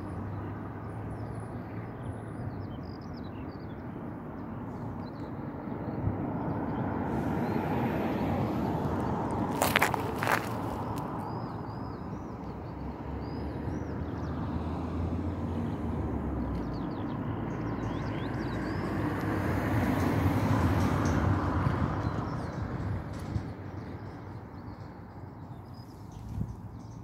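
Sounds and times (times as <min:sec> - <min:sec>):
low outdoor rush: 0:00.0 - 0:27.0.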